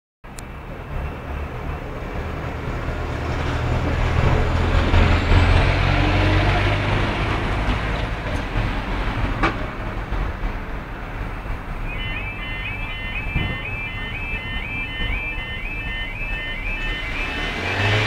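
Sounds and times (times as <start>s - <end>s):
heavy vehicle driving past: 0.6s - 18.0s.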